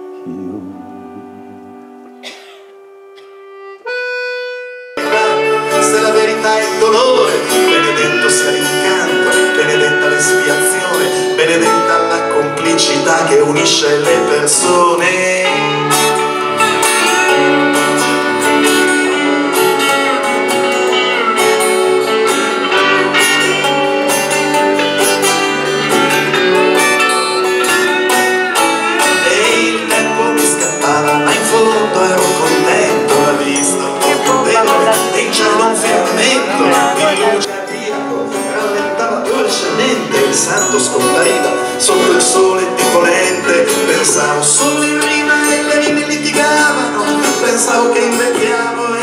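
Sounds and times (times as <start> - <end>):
live band with guitars and bass: 0.0 - 49.0
plucked guitar notes: 0.0 - 49.0.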